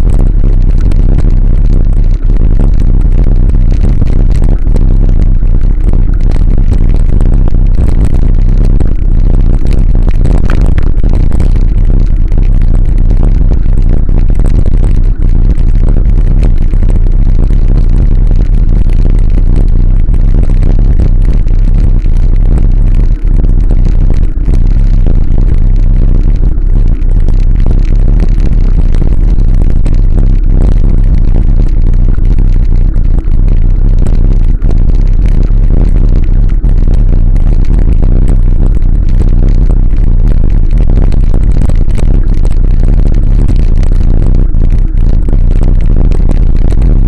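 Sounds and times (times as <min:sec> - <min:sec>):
road vibration: 0:00.0 - 0:47.0
wind rumble on microphone: 0:00.0 - 0:47.0.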